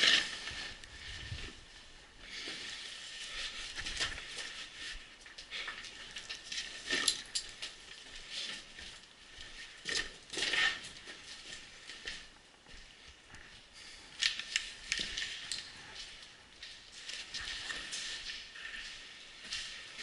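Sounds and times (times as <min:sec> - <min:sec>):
clothing rustling against rock: 0:00.0 - 0:20.0.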